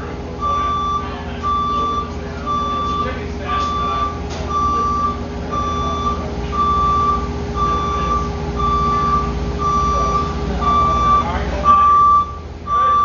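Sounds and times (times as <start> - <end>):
reversing alarm beeping: 0.0 - 13.0
vehicle engine running: 0.0 - 13.0.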